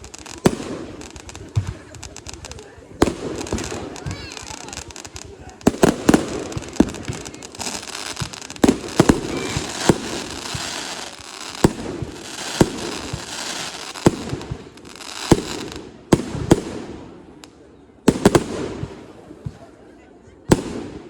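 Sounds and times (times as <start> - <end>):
fireworks bangs: 0.0 - 17.4, 18.0 - 19.8, 20.5 - 21.0
fireworks crackling hiss: 0.0 - 19.8.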